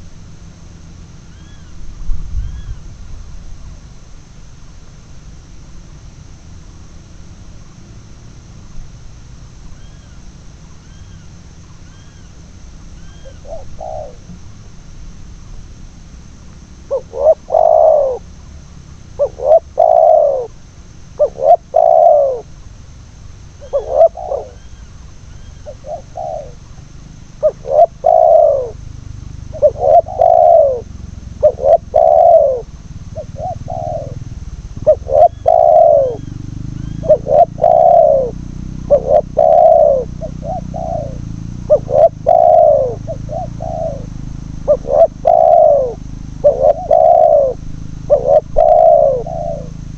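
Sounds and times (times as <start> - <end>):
doves cooing: 9.2 - 49.9.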